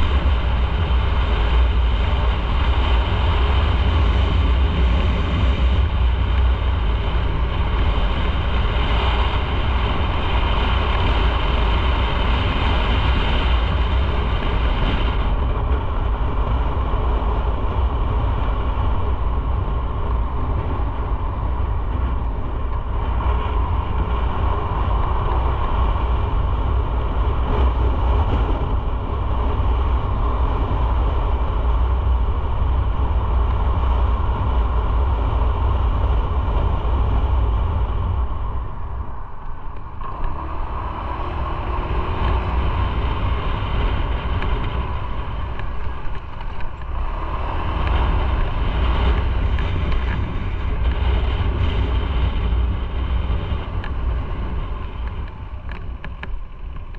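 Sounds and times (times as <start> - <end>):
motorcycle engine and road noise: 0.0 - 56.9.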